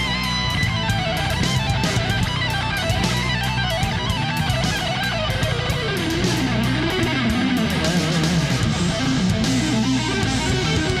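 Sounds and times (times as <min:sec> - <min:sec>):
electric guitar rock music: 0:00.0 - 0:11.0.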